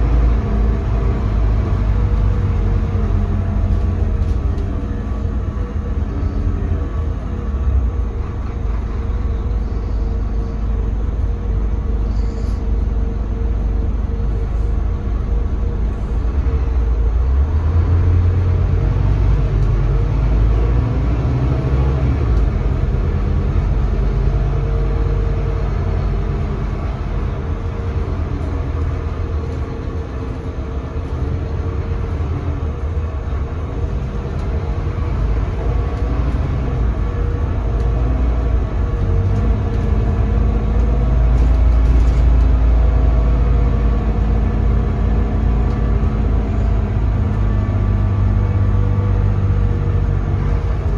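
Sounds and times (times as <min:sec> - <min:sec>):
bus diesel engine: 0:00.0 - 0:50.9.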